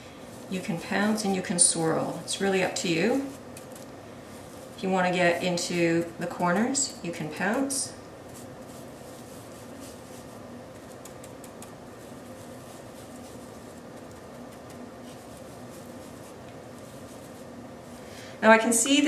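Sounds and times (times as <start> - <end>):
brush dabbing paint: 0.0 - 18.0
steady low hum: 0.0 - 19.0.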